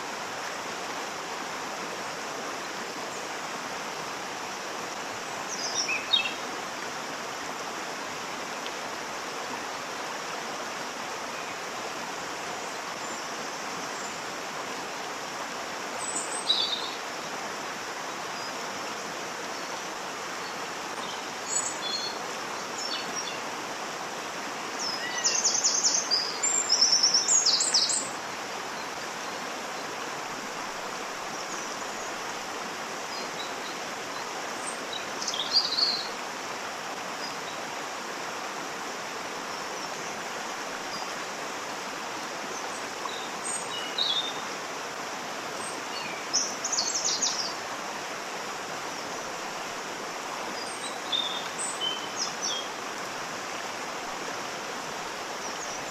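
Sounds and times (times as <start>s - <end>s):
waterfall running: 0.0s - 55.9s.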